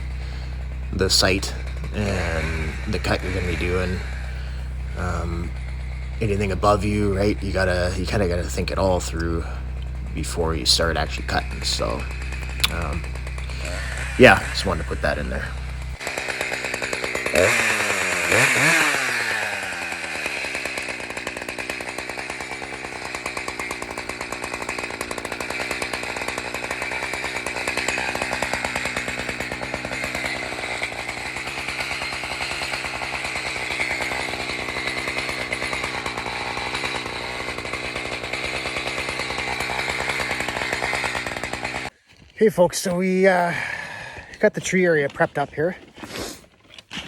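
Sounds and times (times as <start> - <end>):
chainsaw engine running: 0.0 - 47.0.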